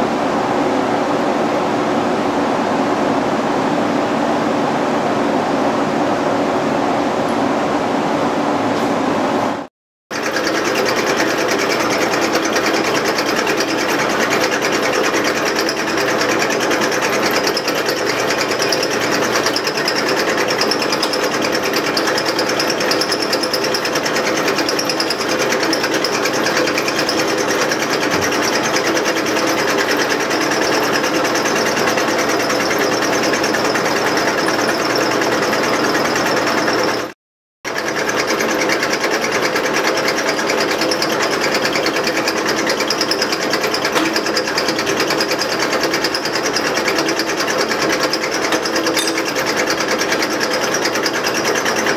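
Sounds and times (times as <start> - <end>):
steady machine background: 0.0 - 37.1, 37.7 - 51.9
drill press drilling steel: 10.1 - 51.9.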